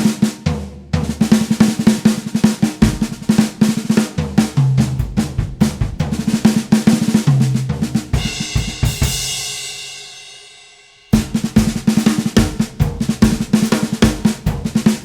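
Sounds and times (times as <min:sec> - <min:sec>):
drum kit played fast: 0:00.0 - 0:15.0.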